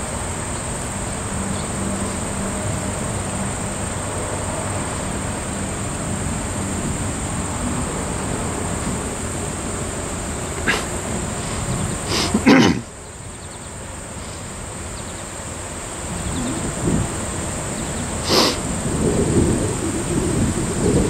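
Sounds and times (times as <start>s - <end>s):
diesel locomotive rumble: 0.0s - 21.0s
high-pitched hiss: 0.0s - 21.0s.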